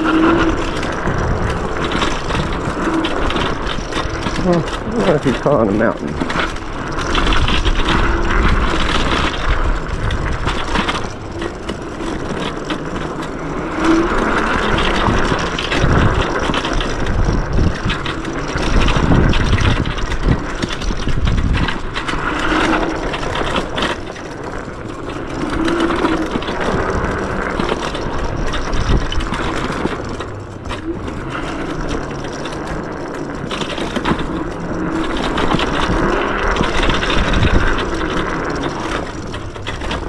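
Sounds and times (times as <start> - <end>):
tyre and suspension rumble: 0.0 - 40.0
wind rushing on microphone: 0.0 - 40.0.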